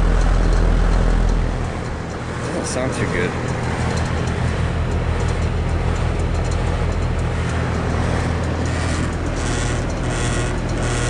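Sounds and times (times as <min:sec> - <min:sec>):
compressor humming: 0:00.0 - 0:11.0
fan air rushing: 0:00.0 - 0:11.0.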